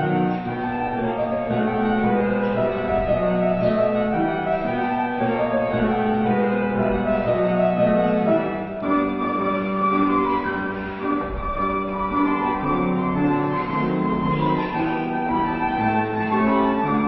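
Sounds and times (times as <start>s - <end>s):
classical piano: 0.0s - 17.0s.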